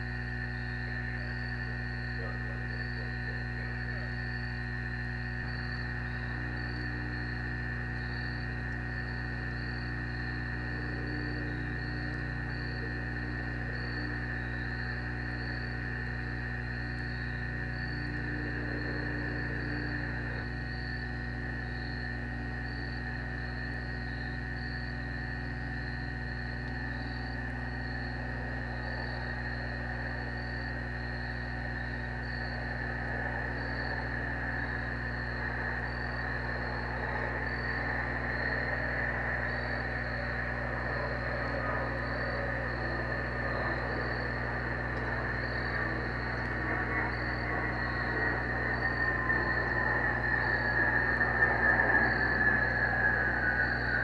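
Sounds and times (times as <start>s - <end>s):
crickets chirping: 0.0s - 54.0s
low hum: 0.0s - 54.0s.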